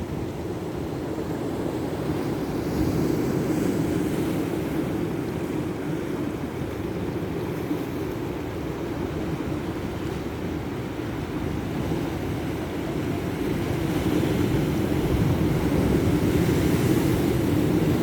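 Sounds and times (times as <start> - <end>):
ocean surf washing on beach: 0.0 - 18.0
wind rumble on microphone: 0.0 - 18.0.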